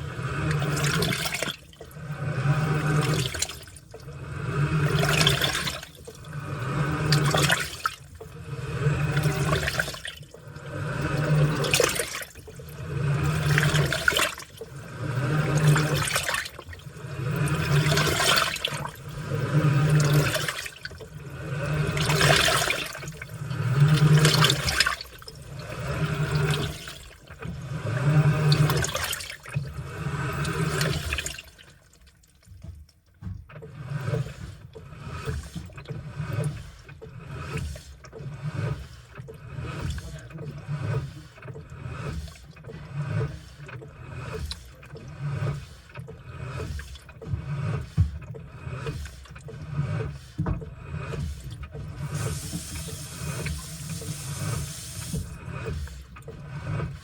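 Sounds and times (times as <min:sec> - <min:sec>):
washing machine motor humming: 0:00.0 - 0:57.0
water sloshing: 0:00.0 - 0:57.0.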